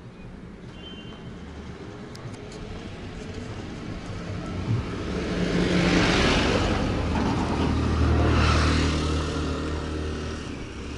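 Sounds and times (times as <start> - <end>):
vehicle engine and tyre noise: 0.0 - 10.9.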